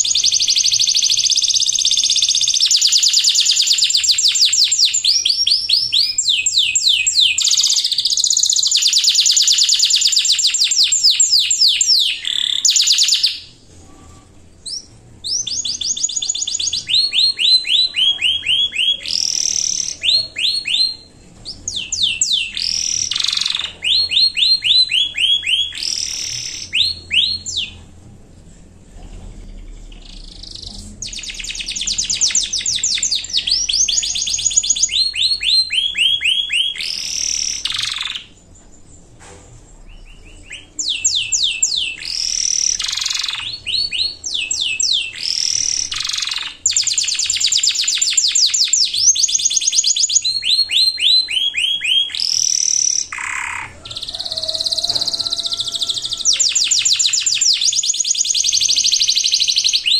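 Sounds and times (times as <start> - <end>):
canary singing trills: 0.0 - 28.0, 29.2 - 39.0, 39.8 - 59.9.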